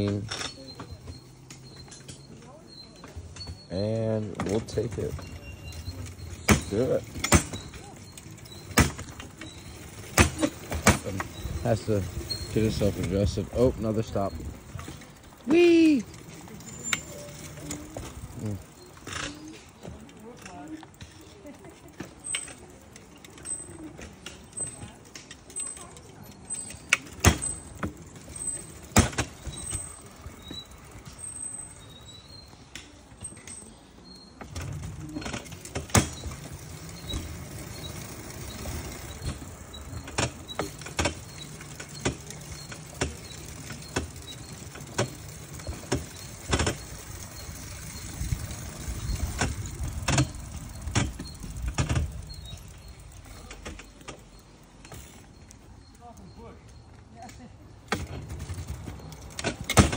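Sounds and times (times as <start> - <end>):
rail bike wheels rumbling on track: 0.0 - 59.9
sharp clicks of wheels on rails: 0.0 - 59.9.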